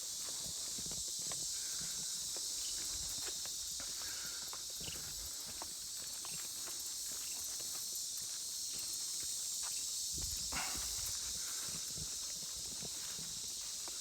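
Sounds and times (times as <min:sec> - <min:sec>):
footsteps on trail: 0:00.0 - 0:14.0
insects chorus: 0:00.0 - 0:14.0.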